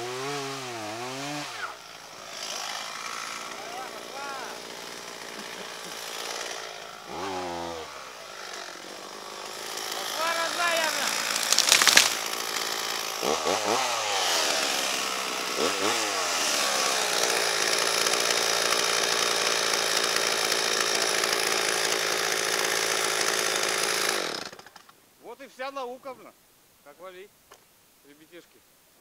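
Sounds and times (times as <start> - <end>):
chainsaw running hard: 0.0 - 24.9.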